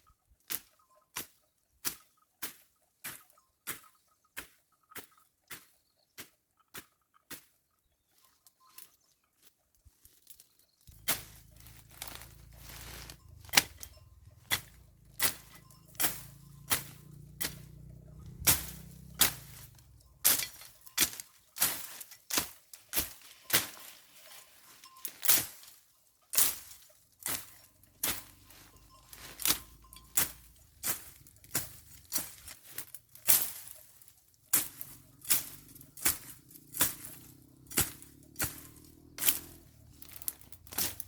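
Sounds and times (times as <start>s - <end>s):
hand tool chopping weeds: 0.5s - 7.6s, 10.9s - 41.0s.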